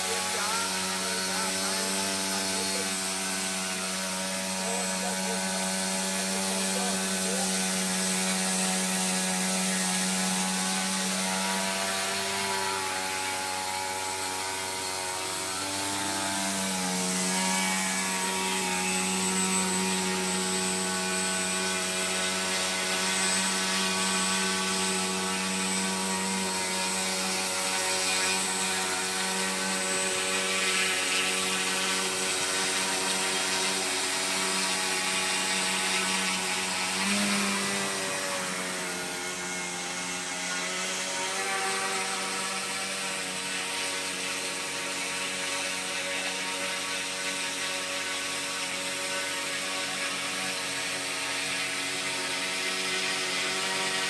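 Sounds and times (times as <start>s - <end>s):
model helicopter engine running: 0.0s - 54.0s.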